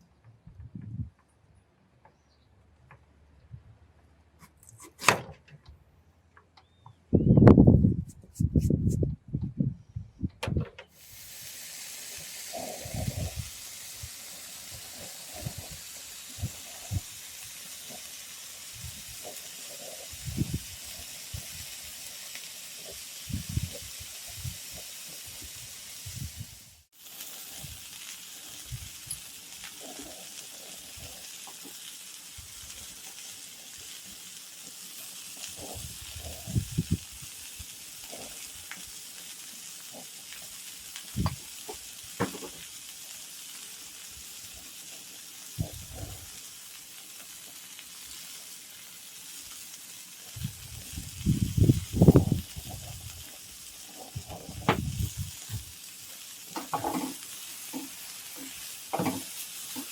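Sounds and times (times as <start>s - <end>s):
steady hissing: 10.8s - 59.9s.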